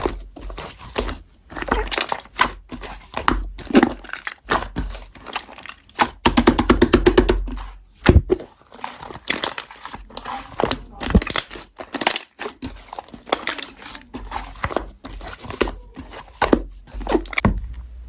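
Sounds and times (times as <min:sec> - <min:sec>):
slime squishing with wet pops: 0:00.0 - 0:17.4.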